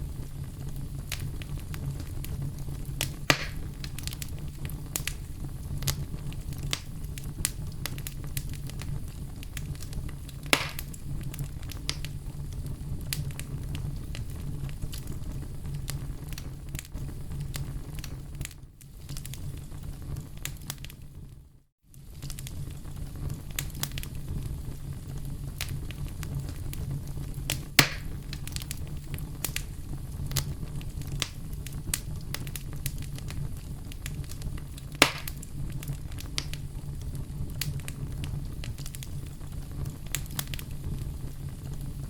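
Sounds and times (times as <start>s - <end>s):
campfire crackling: 0.0s - 21.0s, 21.9s - 42.0s.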